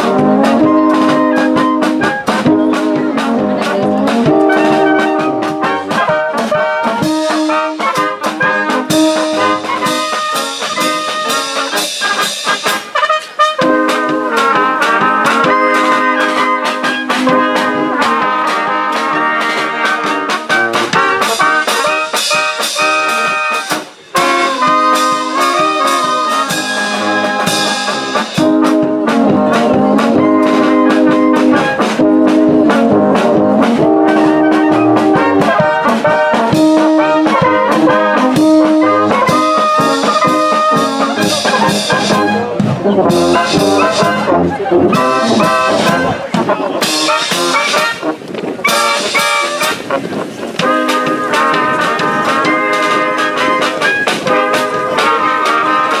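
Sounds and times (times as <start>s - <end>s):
brass band music: 0.0s - 56.0s.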